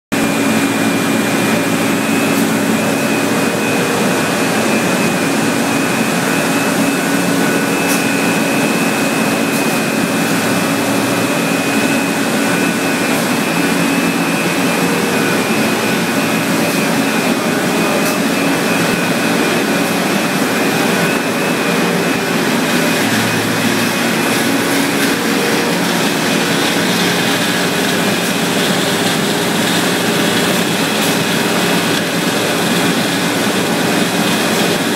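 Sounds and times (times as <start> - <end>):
high whine: 0.1 - 34.9
industrial machinery drone: 0.1 - 34.9.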